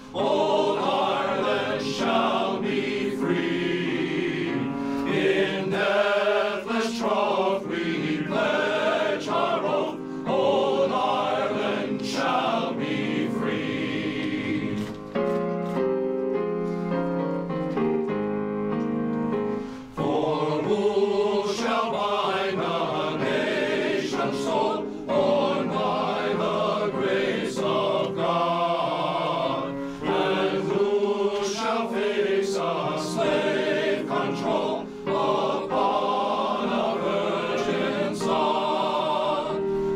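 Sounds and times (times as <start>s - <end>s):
men's choir singing in harmony: 0.0s - 15.1s, 19.9s - 39.9s
electronic keyboard: 0.0s - 39.9s.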